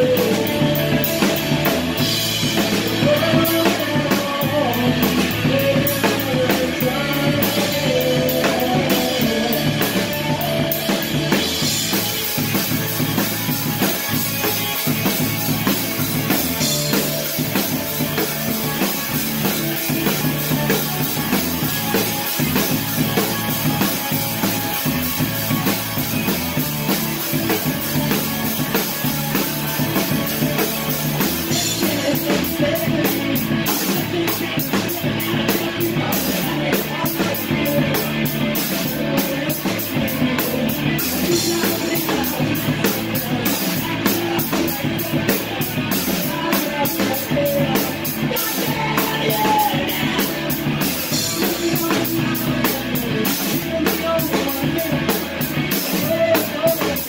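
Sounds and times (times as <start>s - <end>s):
drums and cymbals: 0.0s - 57.0s
live band playing: 0.0s - 57.0s.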